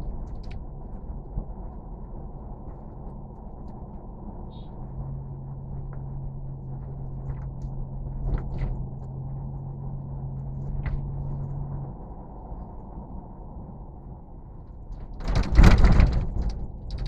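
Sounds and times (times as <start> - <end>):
rumbling background: 0.0 - 17.0.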